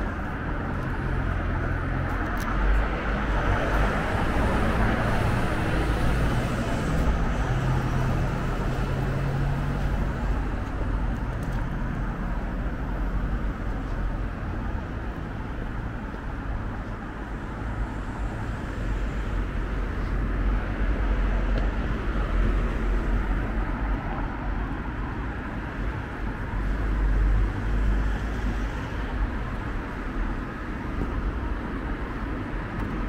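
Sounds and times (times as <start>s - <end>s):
cars passing: 0.0s - 33.0s.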